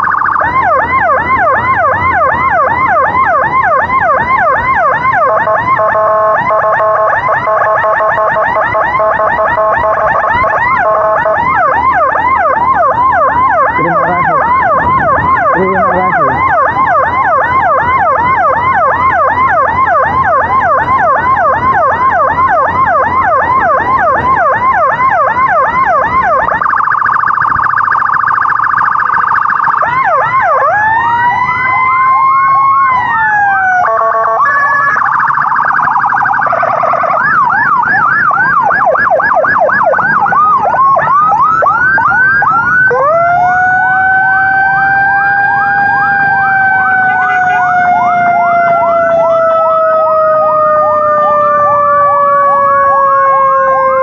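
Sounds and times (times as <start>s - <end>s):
electronic emergency siren: 0.0s - 54.0s.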